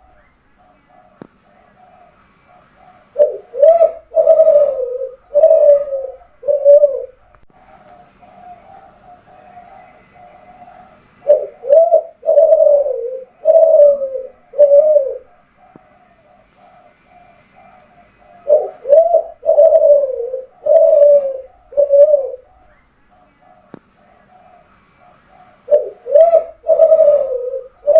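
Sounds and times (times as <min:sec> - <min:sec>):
dove cooing: 0:00.0 - 0:27.9.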